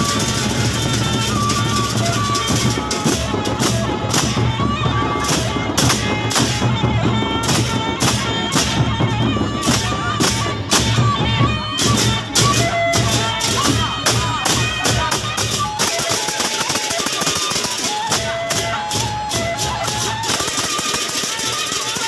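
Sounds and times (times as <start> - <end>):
big drums: 0.0 - 22.0
reed pipe melody: 0.0 - 22.0.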